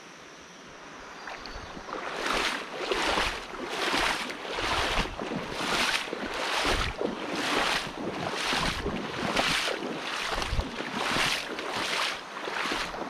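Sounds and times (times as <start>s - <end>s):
boots splashing through water: 1.3s - 13.0s.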